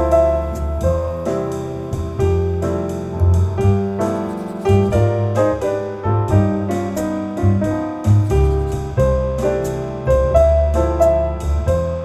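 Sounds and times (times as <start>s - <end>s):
piano music with deep bass: 0.0s - 12.0s.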